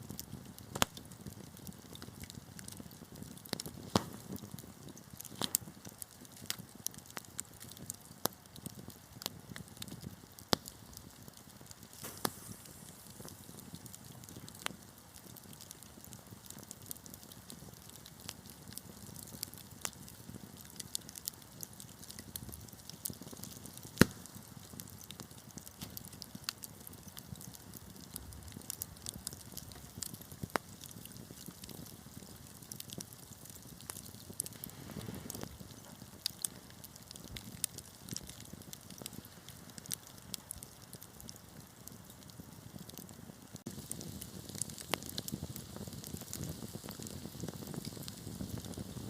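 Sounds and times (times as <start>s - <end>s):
fire crackles and pops: 0.0s - 49.0s
wood fire hissing: 0.0s - 49.0s.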